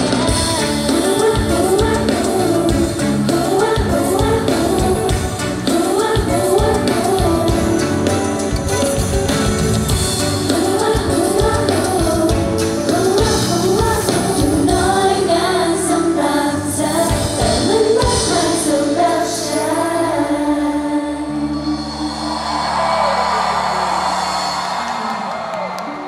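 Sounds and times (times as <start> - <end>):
women singing pop song: 0.0 - 8.4, 10.2 - 22.8
drums: 0.0 - 26.0
keyboard: 0.0 - 26.0.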